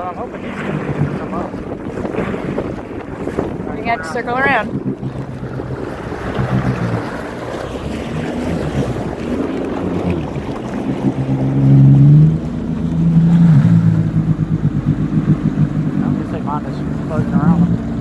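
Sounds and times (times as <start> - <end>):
jet ski engine: 0.0 - 18.0
water noise: 0.0 - 18.0
wind buffeting microphone: 0.0 - 18.0.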